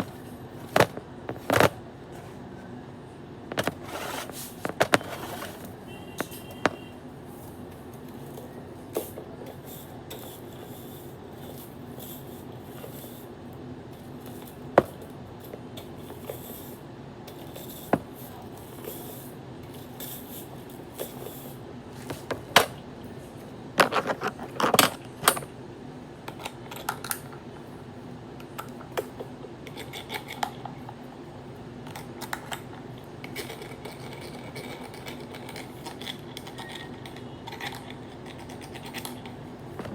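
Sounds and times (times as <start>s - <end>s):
steady low hum: 0.0s - 32.3s.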